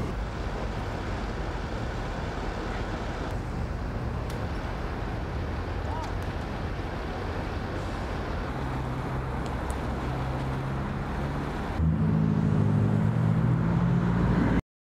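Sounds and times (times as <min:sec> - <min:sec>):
engine humming: 0:00.0 - 0:14.6.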